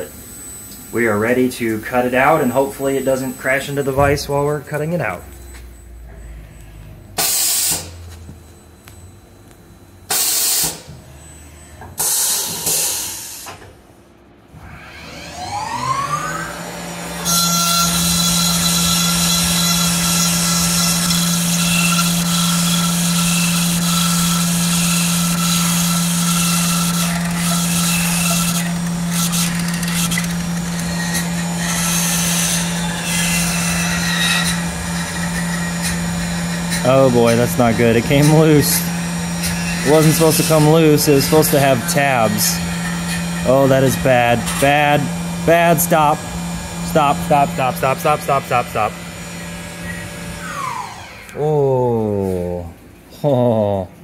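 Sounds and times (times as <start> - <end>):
mill spindle whine and hum: 0.0 - 53.5.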